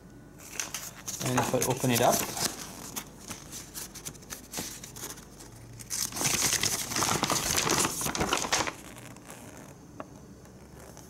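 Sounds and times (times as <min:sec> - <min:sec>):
paper rustling and crinkling: 0:00.4 - 0:09.8.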